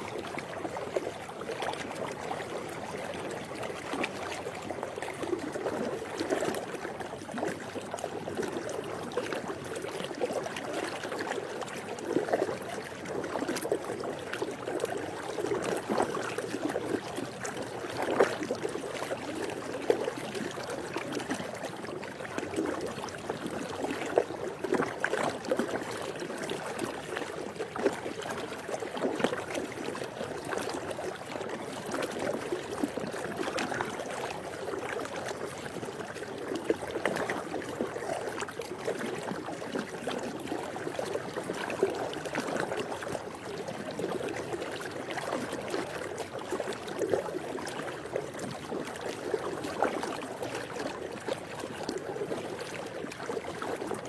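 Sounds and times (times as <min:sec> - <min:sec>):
pool water lapping: 0:00.0 - 0:54.0
water splashes: 0:00.0 - 0:54.0.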